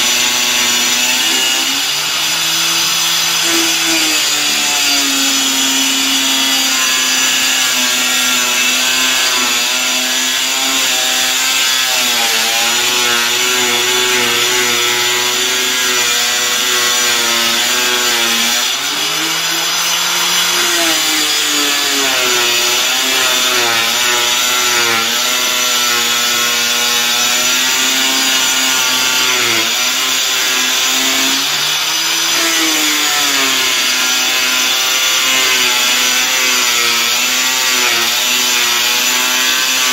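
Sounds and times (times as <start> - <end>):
electric disc cutter cutting board: 0.0 - 39.9.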